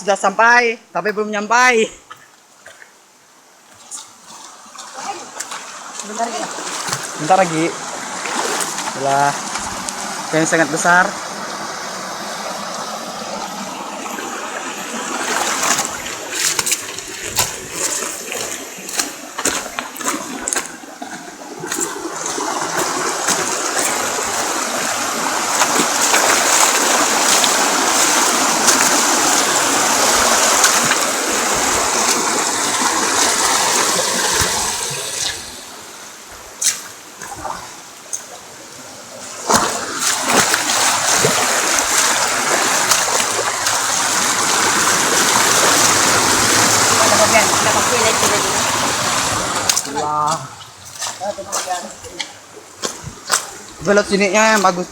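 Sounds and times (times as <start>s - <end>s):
water rushing: 0.0s - 54.9s.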